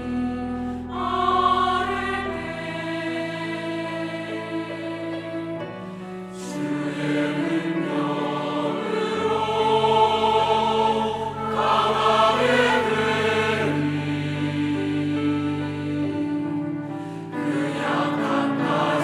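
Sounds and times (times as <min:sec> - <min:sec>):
church choir singing: 0:00.0 - 0:19.0.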